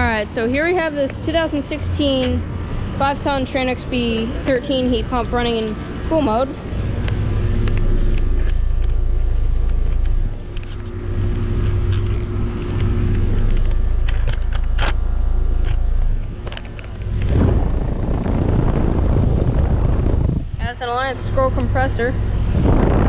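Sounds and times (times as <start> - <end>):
compressor low hum: 0.0 - 23.0
condenser fan rushing: 0.0 - 23.0.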